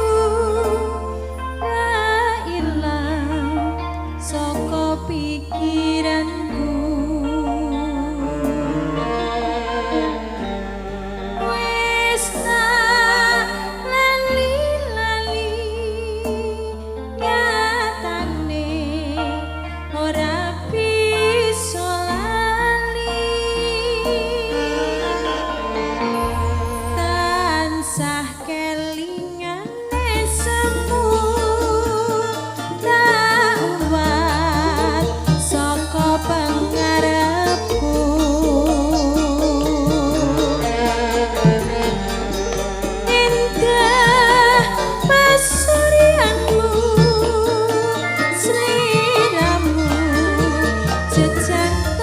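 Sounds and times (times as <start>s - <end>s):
person singing with vibrato: 0.0s - 19.4s, 20.2s - 52.0s
held keyboard chords: 0.0s - 52.0s
low bass line: 0.0s - 52.0s.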